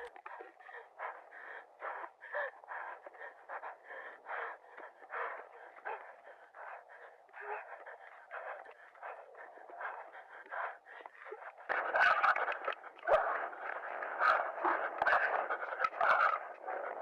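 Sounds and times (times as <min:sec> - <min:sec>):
person panting: 0:00.0 - 0:17.0.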